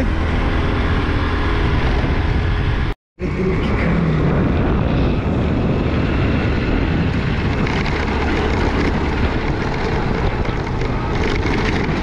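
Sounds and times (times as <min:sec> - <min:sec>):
road vehicle rumble: 0:00.0 - 0:12.0
wind buffeting microphone: 0:00.0 - 0:12.0.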